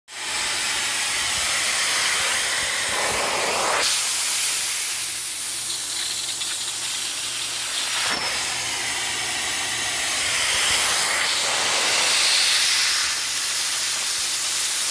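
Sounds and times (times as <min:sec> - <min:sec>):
extractor suction hiss: 0:00.1 - 0:14.9.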